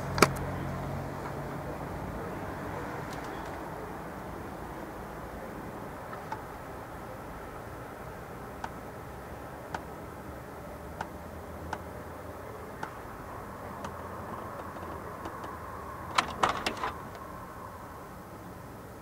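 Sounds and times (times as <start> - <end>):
outdoor drone and hiss: 0.0 - 19.0.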